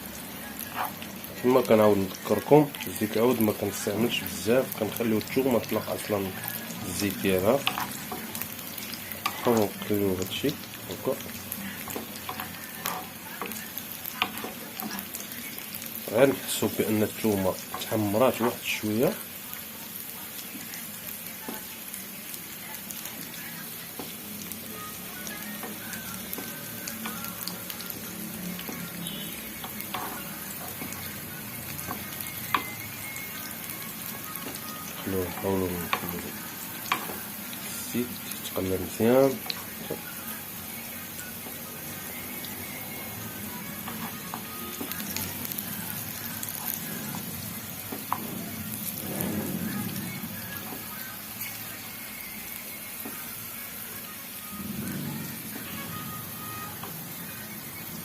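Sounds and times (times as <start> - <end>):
garlic sizzling in oil: 0.0 - 58.0.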